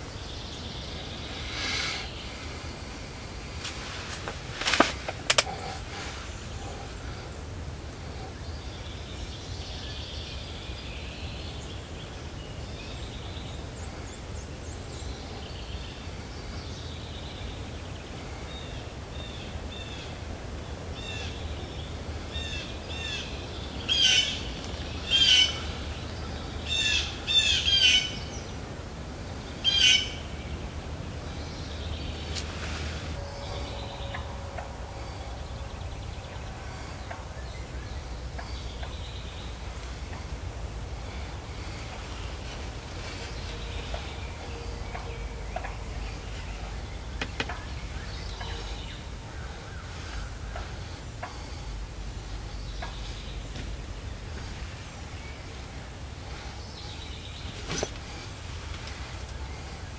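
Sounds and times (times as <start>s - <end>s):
birds chirping: 0.0s - 59.9s
loud sharp bird calls: 0.0s - 59.9s.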